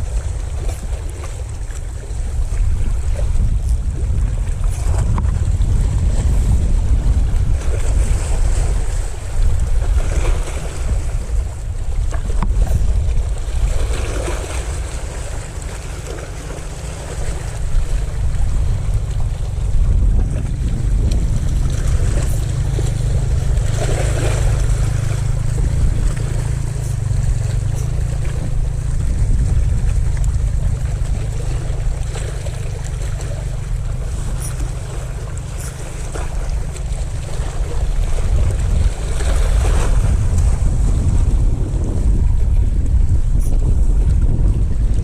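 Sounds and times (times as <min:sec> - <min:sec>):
sea water washing: 0:00.0 - 0:45.0
wind on microphone: 0:00.0 - 0:45.0.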